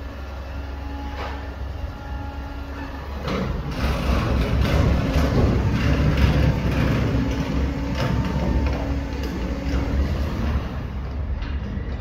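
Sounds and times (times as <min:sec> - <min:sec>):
garbage truck engine rumbling: 0:00.0 - 0:12.0.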